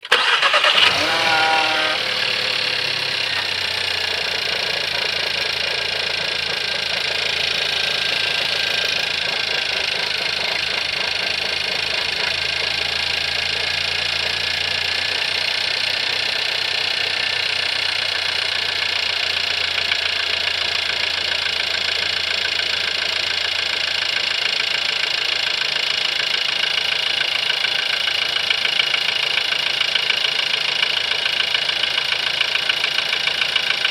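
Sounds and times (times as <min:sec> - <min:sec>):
car engine idling with knocking rattle: 0:00.0 - 0:33.9.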